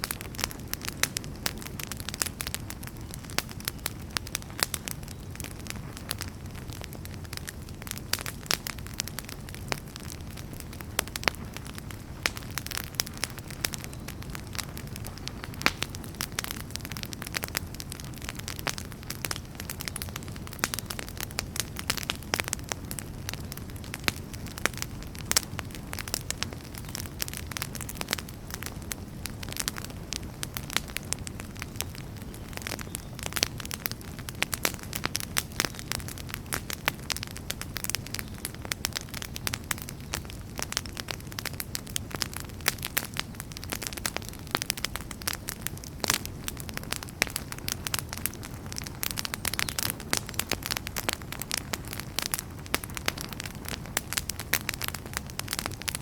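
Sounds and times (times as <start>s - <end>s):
logs crackling and popping: 0.0s - 56.0s
wood fire burning: 0.0s - 56.0s.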